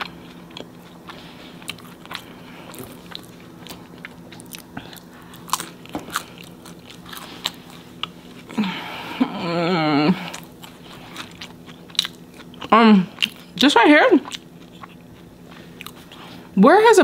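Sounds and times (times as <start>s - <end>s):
chewing crispy crust: 0.0s - 8.9s, 10.1s - 16.5s
faint steady hum: 0.0s - 17.0s.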